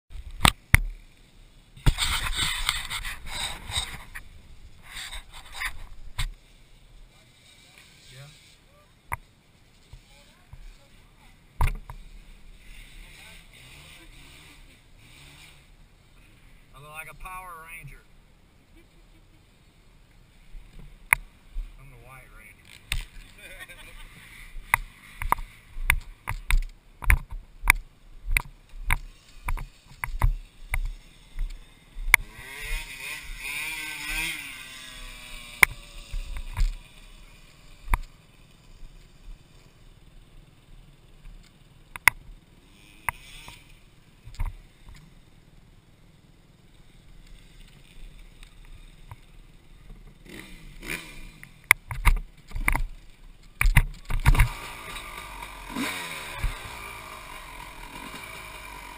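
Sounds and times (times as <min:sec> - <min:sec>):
dirt bike engine: 0:00.1 - 0:58.9.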